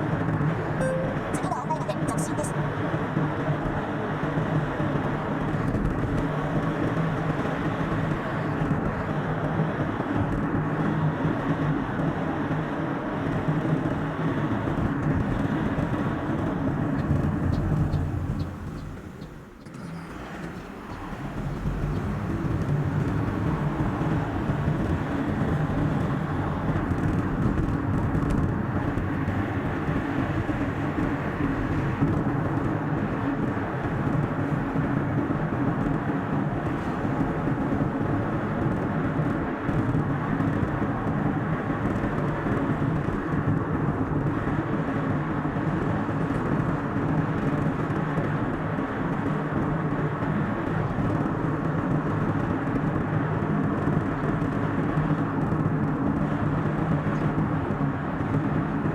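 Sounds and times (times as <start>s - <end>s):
car engine and tyre noise: 0.0s - 58.9s.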